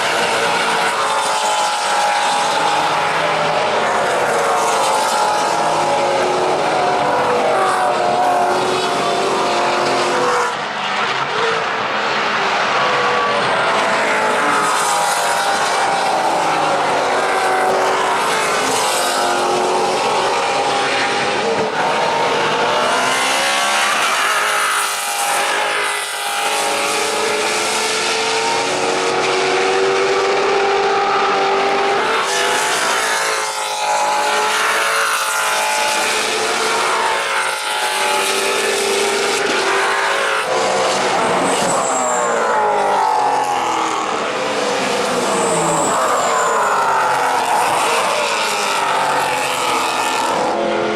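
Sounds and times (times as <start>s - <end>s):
race car engines revving: 0.0s - 50.9s.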